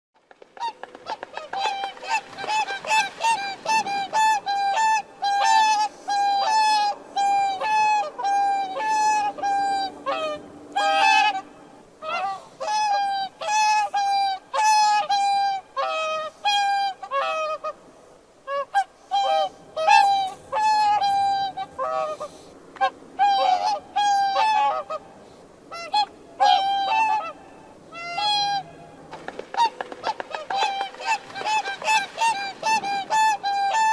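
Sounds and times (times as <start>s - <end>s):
swans honking: 0.6s - 33.9s.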